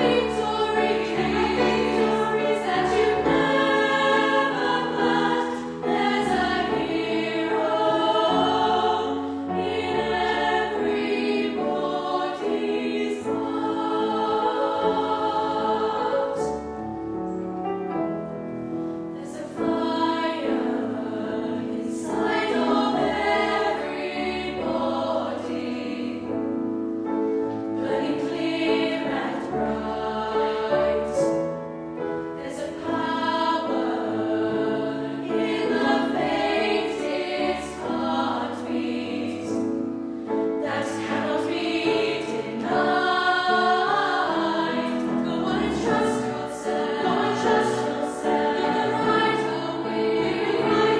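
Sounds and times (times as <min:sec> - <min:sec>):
youth choir singing: 0:00.0 - 0:16.7, 0:19.2 - 0:26.6, 0:27.7 - 0:31.4, 0:32.0 - 0:50.9.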